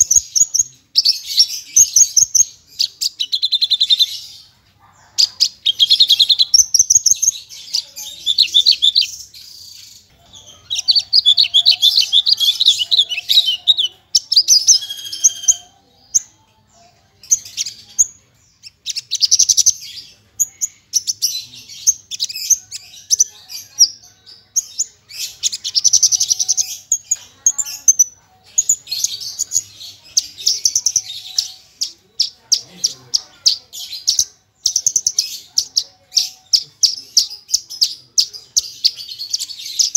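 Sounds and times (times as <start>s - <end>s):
lark singing trills and chirps: 0.0s - 4.5s, 5.2s - 16.3s, 17.2s - 39.9s.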